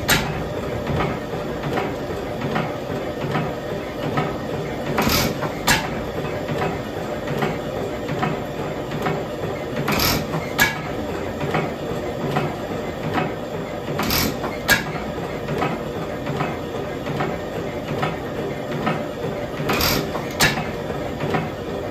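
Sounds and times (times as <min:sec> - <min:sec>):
oil engine clattering: 0:00.0 - 0:21.9.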